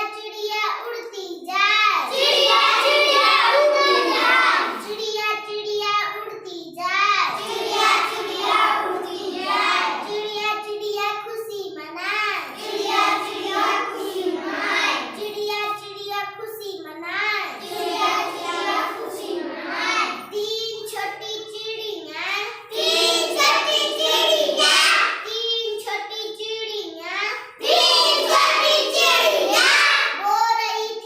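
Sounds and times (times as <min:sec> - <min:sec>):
child singing: 0:00.0 - 0:31.0.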